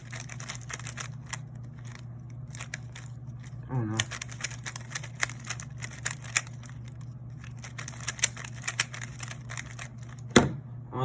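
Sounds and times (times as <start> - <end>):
speed cube plastic clicks: 0.0 - 3.1, 4.0 - 10.2.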